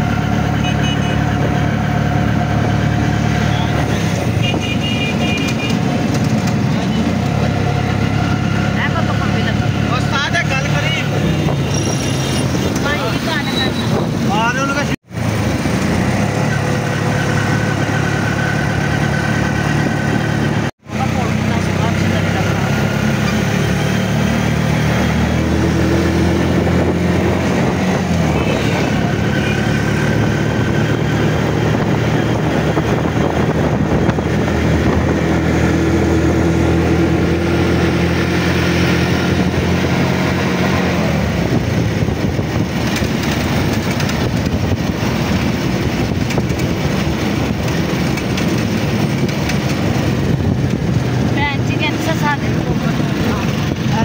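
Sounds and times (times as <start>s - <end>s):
traffic and road noise: 0.0s - 54.0s.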